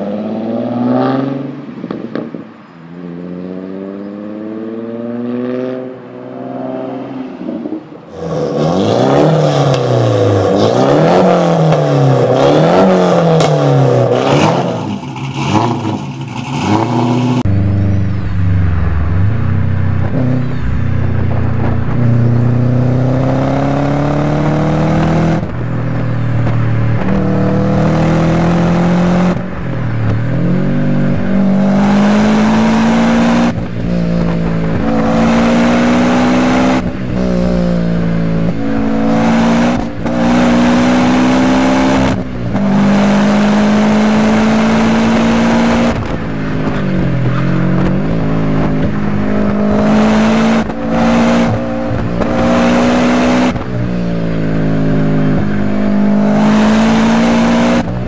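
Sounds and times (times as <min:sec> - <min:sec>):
engine accelerating through gears: 0:08.2 - 0:58.0
exhaust revving in blips: 0:08.2 - 0:58.0.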